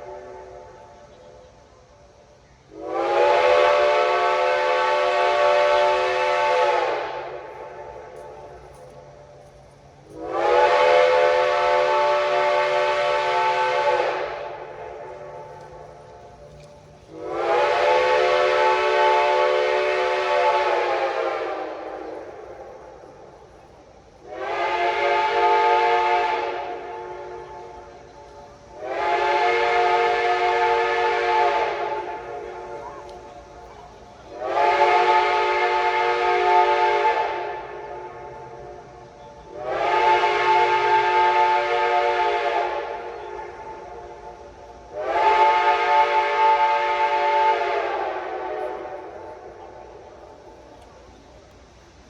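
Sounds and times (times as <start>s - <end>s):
steam locomotive whistle blasts: 0.0s - 1.2s, 2.7s - 23.6s, 24.2s - 51.5s.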